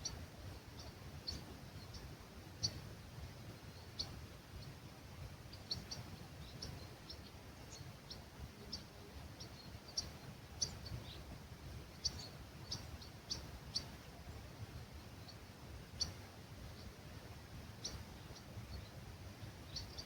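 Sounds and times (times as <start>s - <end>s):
low rumble of breeze: 0.0s - 20.0s
small birds chirping: 0.0s - 20.0s.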